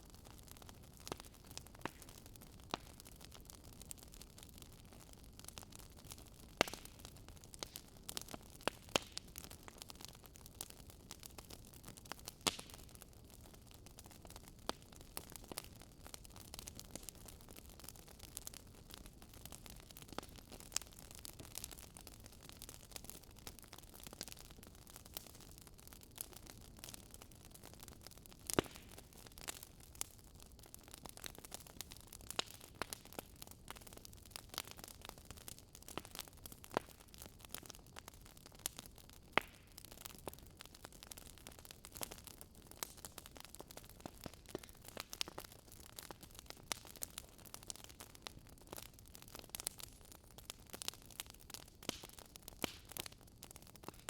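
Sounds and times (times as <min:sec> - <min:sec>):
wood fire crackling softly: 0:00.0 - 0:54.0.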